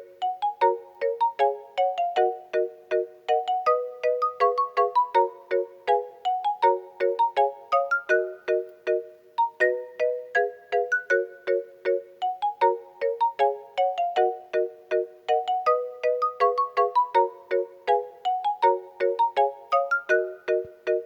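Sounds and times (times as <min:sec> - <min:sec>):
plinking instrumental melody: 0:00.0 - 0:21.0.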